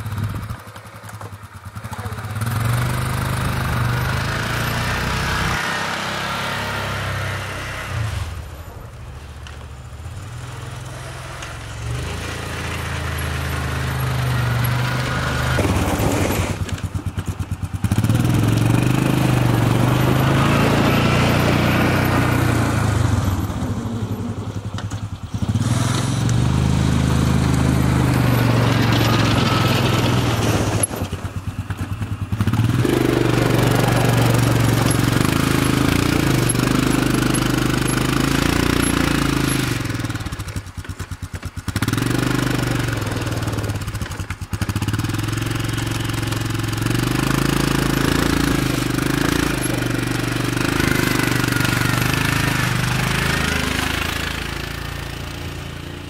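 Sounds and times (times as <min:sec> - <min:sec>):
vehicle engine plowing snow: 0:00.0 - 0:56.0.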